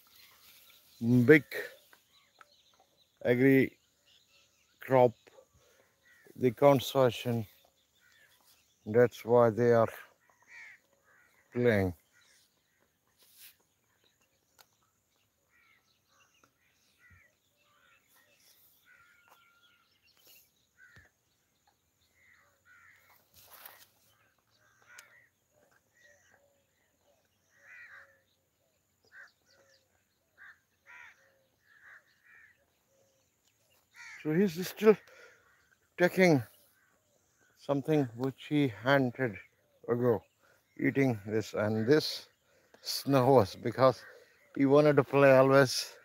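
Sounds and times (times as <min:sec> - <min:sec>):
faint bird calls: 0:00.0 - 0:46.0.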